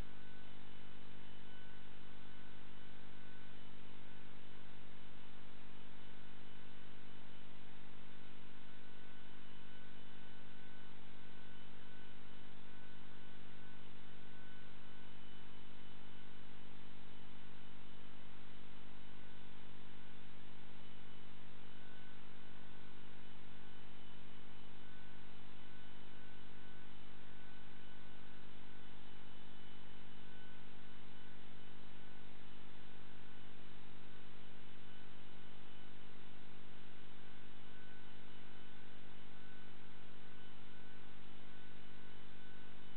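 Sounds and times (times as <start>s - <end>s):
steady electrical hum: 0.0s - 42.9s.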